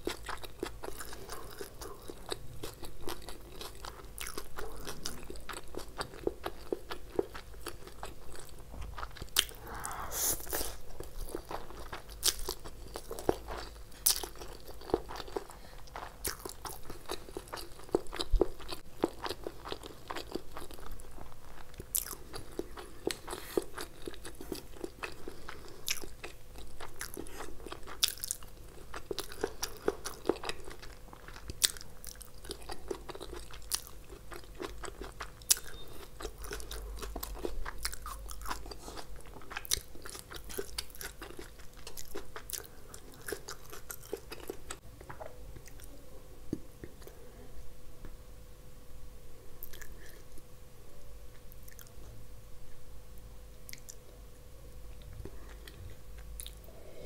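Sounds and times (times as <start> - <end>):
crunchy chewing: 0.0 - 44.8, 49.6 - 50.4, 51.4 - 52.1, 53.6 - 54.1
faint steady hum: 0.0 - 57.0.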